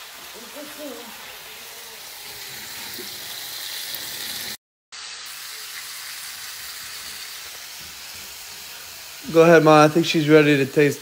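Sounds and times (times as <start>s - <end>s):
meat and vegetables sizzling: 0.0s - 11.0s.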